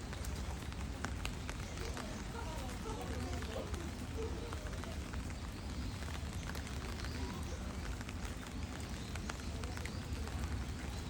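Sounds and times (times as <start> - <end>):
faint distant voices: 0.0 - 11.0.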